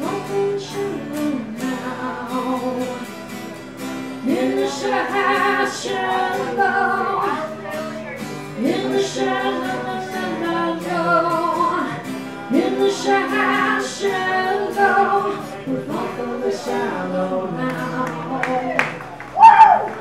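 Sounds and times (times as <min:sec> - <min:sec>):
woman singing: 0:00.0 - 0:03.1, 0:04.2 - 0:07.8, 0:08.5 - 0:19.0
acoustic guitar playing: 0:00.0 - 0:19.3.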